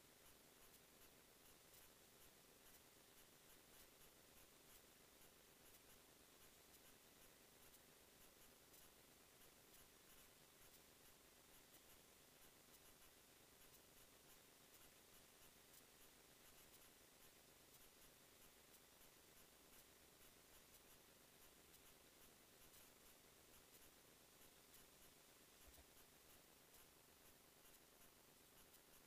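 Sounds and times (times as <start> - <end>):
faint steady hiss: 0.0 - 29.0
faint ticks: 0.0 - 29.0.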